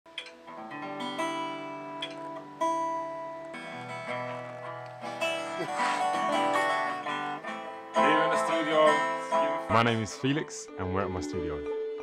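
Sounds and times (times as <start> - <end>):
acoustic guitar slow picked tune: 0.1 - 10.3.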